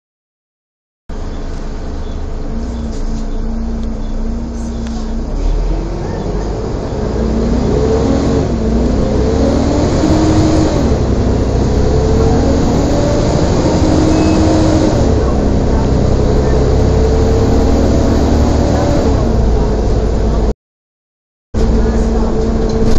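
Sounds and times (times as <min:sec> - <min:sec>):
bus engine accelerating: 0:01.1 - 0:20.5, 0:21.6 - 0:22.9.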